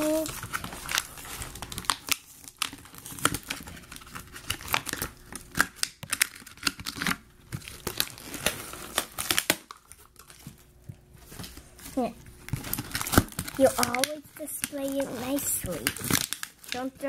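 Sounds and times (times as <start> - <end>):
toy packaging crinkling and tearing: 0.0 - 17.0.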